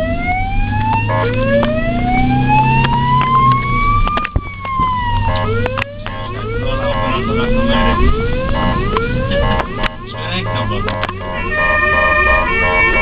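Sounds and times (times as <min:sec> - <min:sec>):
ambulance siren wailing: 0:00.0 - 0:13.0
low vehicle hum: 0:00.0 - 0:13.0
short stepped siren blips: 0:00.0 - 0:13.0.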